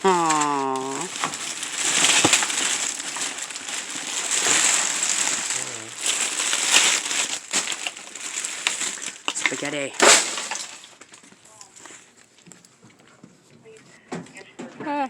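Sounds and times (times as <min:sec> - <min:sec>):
plastic bags crinkling: 0:00.0 - 0:12.5.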